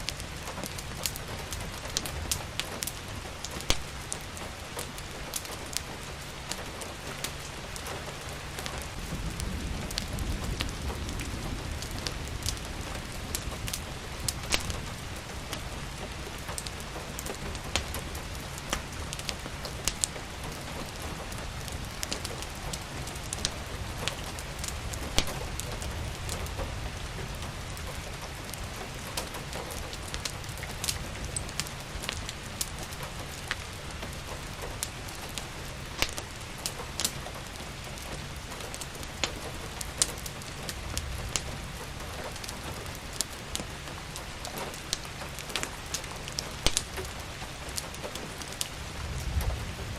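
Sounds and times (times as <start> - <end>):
steady rain: 0.0 - 49.9
wood fire crackling: 0.0 - 49.9.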